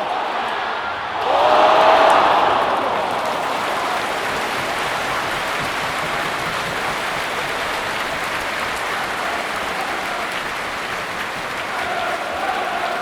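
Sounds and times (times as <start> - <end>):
crowd clapping: 0.0 - 13.0
stadium crowd roaring: 0.0 - 13.0.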